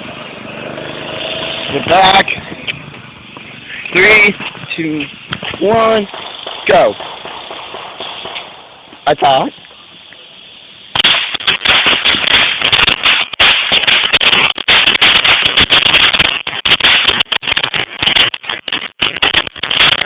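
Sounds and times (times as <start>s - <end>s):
firework crackling pops: 1.2s - 20.0s.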